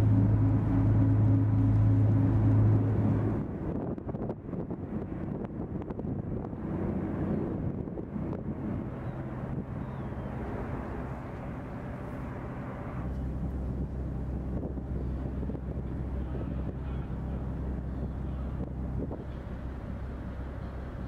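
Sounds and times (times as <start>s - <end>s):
ship engine humming: 0.0s - 21.0s
wind on microphone: 0.0s - 21.0s.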